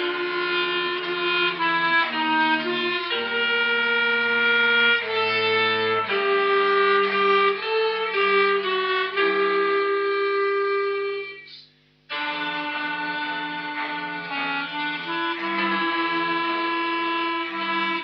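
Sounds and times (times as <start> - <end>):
violin slow melody: 0.0 - 18.0.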